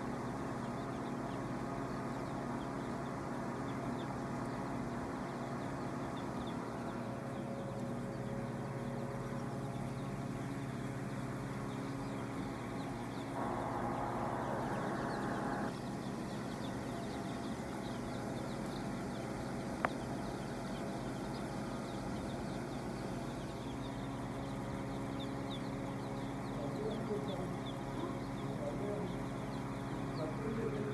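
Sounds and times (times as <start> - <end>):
chicks peeping: 0.0 - 30.9
steady low hum: 0.0 - 30.9.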